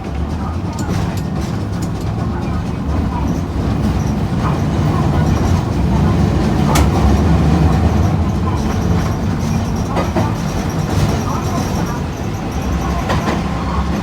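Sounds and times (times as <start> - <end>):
streetcar rumbling: 0.0 - 14.0.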